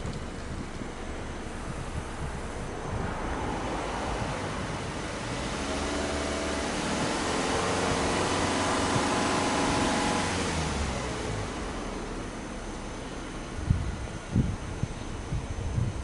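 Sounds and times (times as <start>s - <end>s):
car engine revving: 0.0s - 14.5s.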